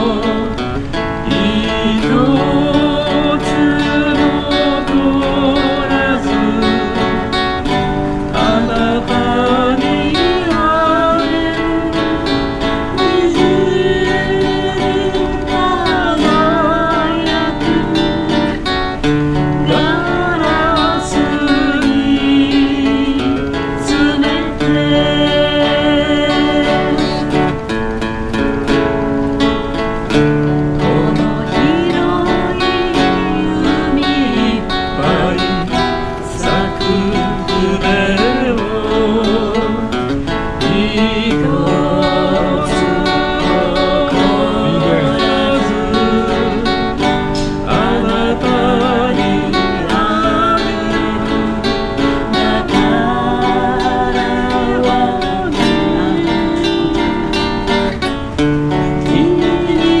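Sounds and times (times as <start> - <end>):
couple singing in harmony: 0.0 - 29.3, 30.0 - 60.0
acoustic guitar: 0.0 - 60.0.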